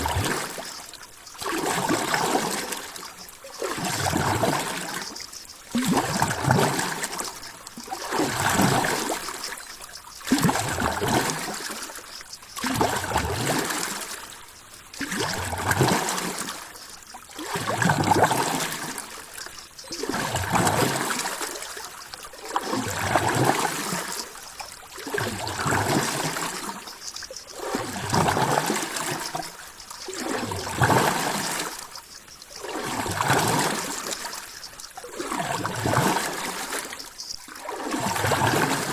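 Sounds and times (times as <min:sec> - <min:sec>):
ocean water sloshing and lapping: 0:00.0 - 0:38.9.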